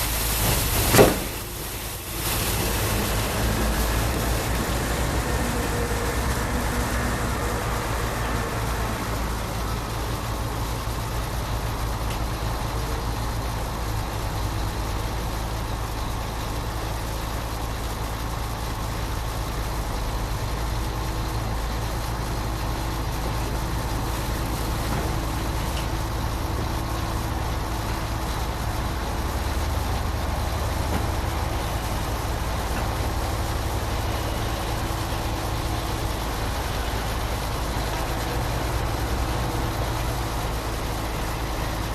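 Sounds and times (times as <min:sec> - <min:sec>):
truck engine rumbling: 0:00.0 - 0:41.9.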